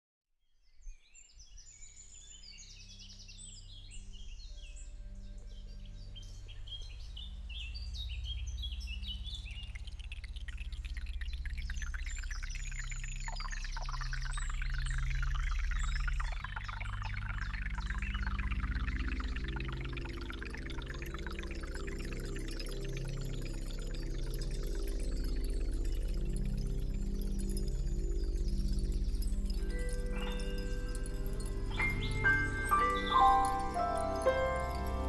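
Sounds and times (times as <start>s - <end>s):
birds chirping: 1.4s - 35.0s
low steady drone: 2.0s - 35.0s.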